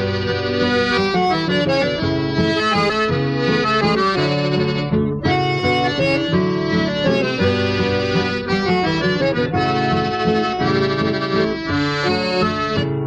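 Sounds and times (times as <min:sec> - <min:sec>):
accordion melody: 0:00.0 - 0:13.0
plucked strings accompaniment: 0:00.0 - 0:13.0.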